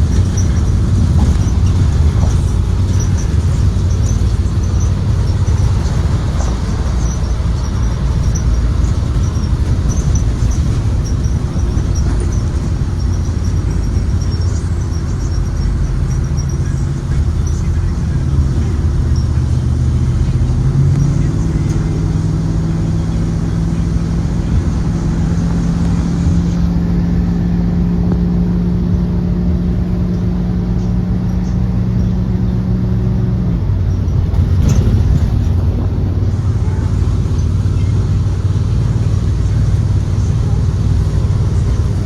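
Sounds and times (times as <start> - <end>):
bus engine running: 0.0 - 42.0.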